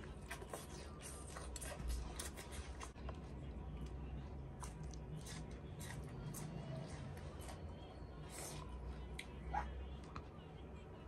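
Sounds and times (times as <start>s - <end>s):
chewing and lip-smacking: 0.0s - 10.3s.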